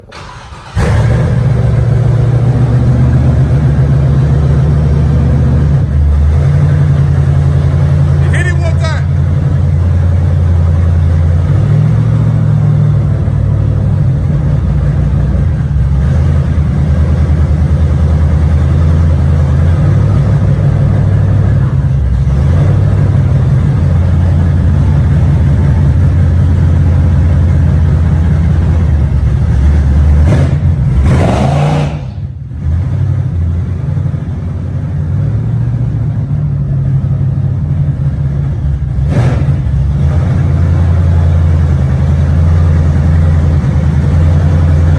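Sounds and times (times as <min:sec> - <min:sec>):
car engine choppy low rumble: 0:00.0 - 0:44.9.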